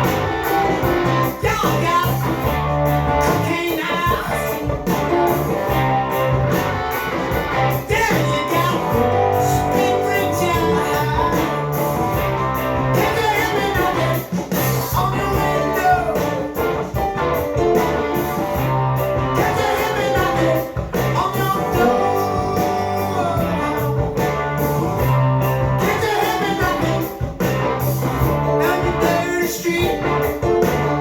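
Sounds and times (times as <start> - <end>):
rock music from vinyl record: 0.0 - 31.0.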